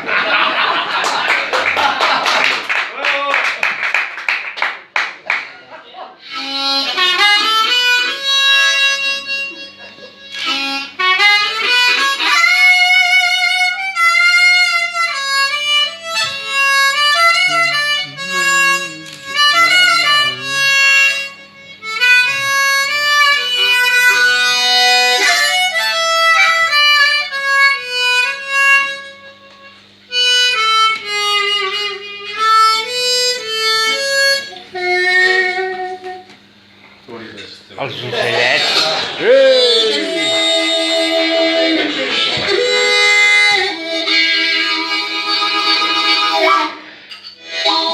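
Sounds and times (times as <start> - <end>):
steady low hum: 3.8 - 47.9
blues harmonica solo: 6.2 - 36.8, 39.2 - 47.9.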